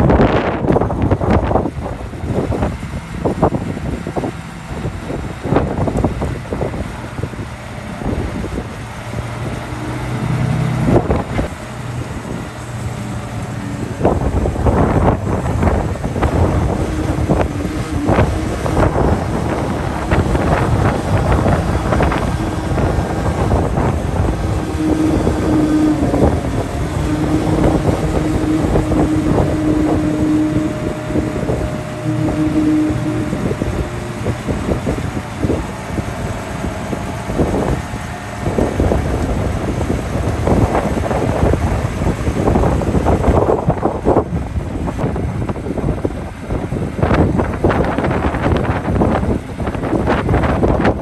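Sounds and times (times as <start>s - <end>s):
diesel truck engine revving: 0.0s - 51.0s
hydraulic whine: 0.0s - 51.0s
wind buffeting microphone: 0.0s - 51.0s.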